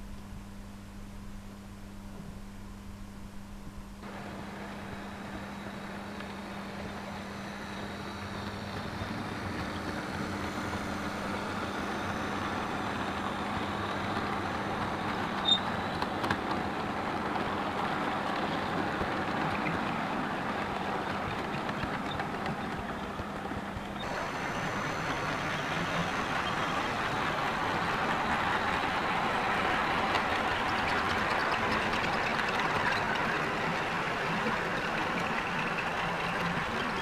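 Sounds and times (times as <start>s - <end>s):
model train cars rolling: 4.0s - 37.0s.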